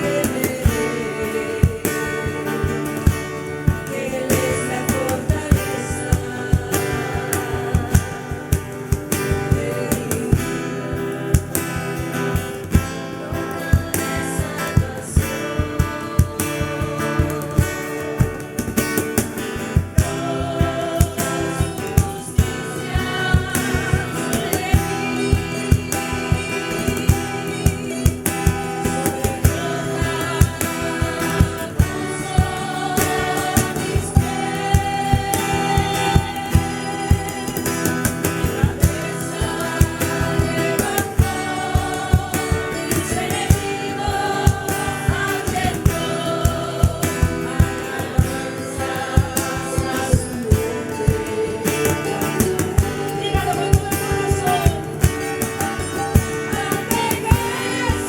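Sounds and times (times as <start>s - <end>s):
guitar: 0.0s - 58.0s
percussive beat: 0.0s - 58.0s
voices singing together: 0.0s - 58.0s.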